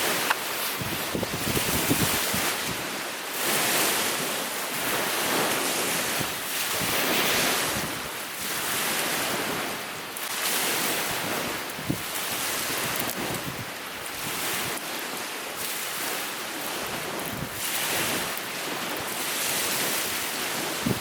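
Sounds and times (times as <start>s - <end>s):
strong wind: 0.0s - 9.9s, 10.5s - 14.8s, 16.7s - 21.0s
waves washing against shore: 0.0s - 21.0s.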